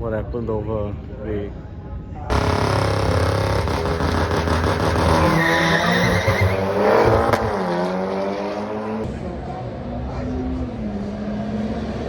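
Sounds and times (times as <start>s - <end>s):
racing car engine at full throttle: 2.3s - 12.0s.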